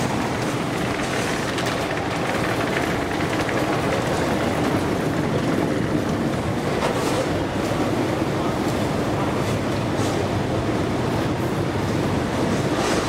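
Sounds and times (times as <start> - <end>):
escalator mechanical noise: 0.0 - 13.0.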